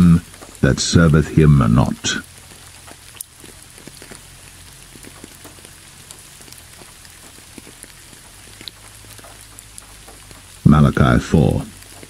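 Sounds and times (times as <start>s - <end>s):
low steady hum: 0.0s - 12.0s
steady rain falling: 0.0s - 12.0s.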